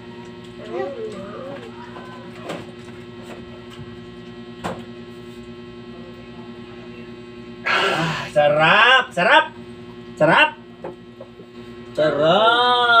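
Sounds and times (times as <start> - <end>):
appliance electrical hum: 0.0 - 13.0.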